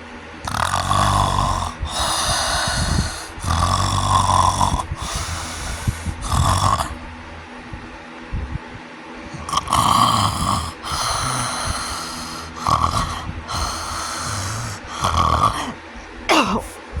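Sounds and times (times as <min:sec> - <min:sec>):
person snoring: 0:00.4 - 0:07.1, 0:09.3 - 0:16.8
breathy exhales: 0:00.5 - 0:07.1, 0:09.3 - 0:16.8.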